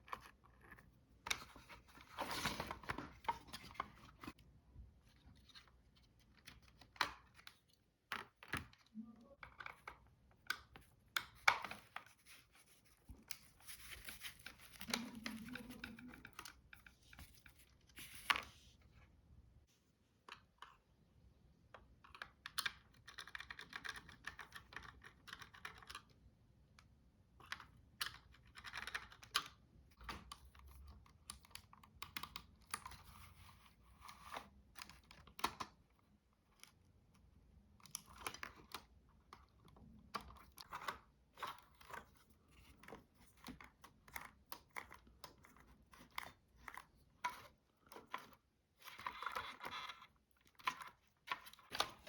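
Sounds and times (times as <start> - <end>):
plastic parts clicking and scratching: 5.2 - 18.5, 22.0 - 26.2, 27.4 - 52.0.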